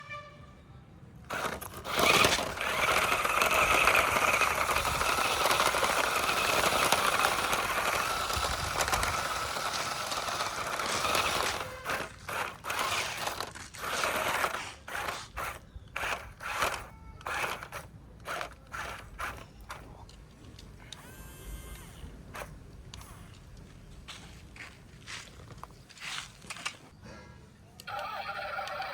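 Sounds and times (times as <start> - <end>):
toy truck motor whirring: 1.2 - 23.6, 27.8 - 28.9.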